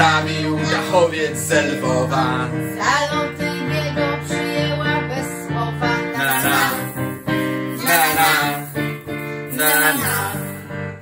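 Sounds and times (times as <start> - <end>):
voices singing: 0.0 - 7.0, 7.8 - 8.8, 9.5 - 10.6
electric keyboard: 0.0 - 11.0.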